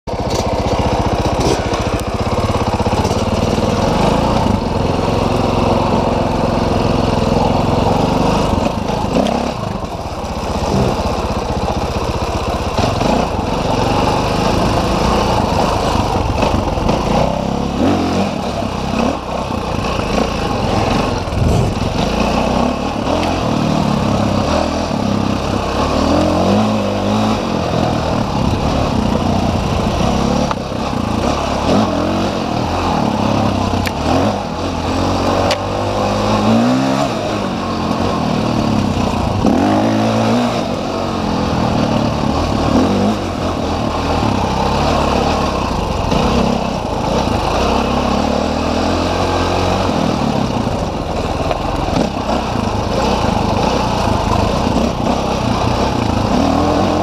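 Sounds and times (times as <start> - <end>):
dirt bike engine revving: 0.1 - 57.0.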